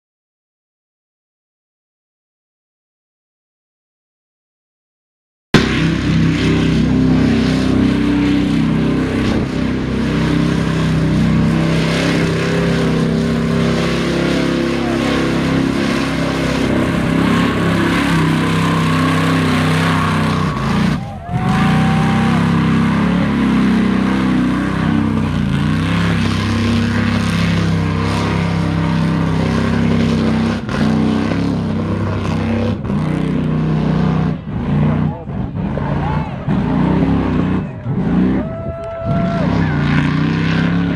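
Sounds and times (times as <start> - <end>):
truck engine revving: 5.6 - 40.9.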